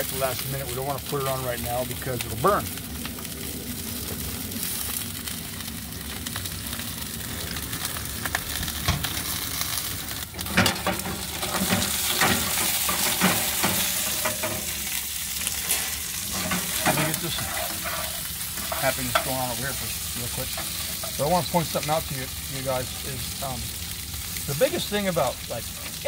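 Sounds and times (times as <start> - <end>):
fish sizzling in a skillet: 0.0 - 26.0.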